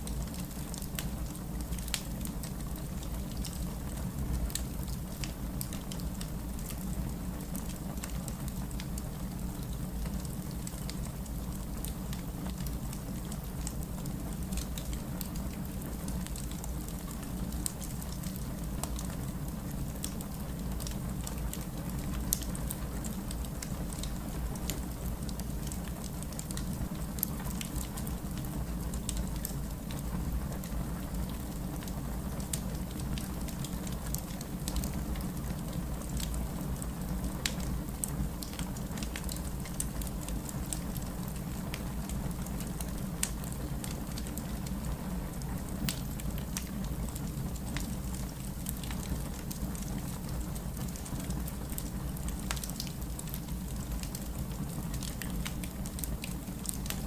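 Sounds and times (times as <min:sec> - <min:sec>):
fire crackles and pops: 0:00.0 - 0:57.0
low rumble of flame: 0:00.0 - 0:57.0.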